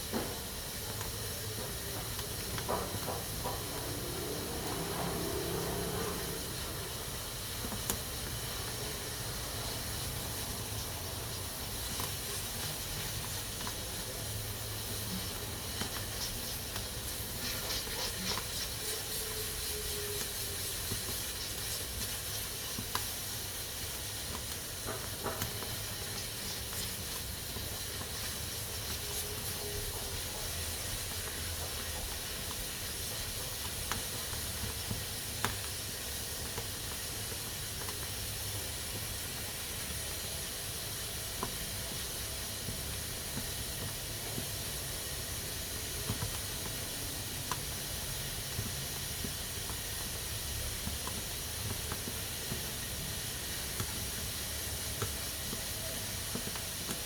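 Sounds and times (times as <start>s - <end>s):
pressure cooker hissing: 0.0s - 57.0s.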